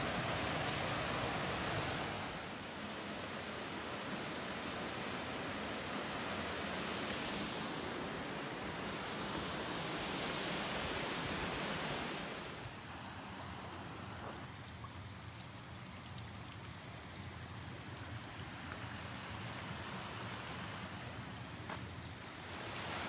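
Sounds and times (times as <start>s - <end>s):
shallow stream running: 0.0s - 23.0s.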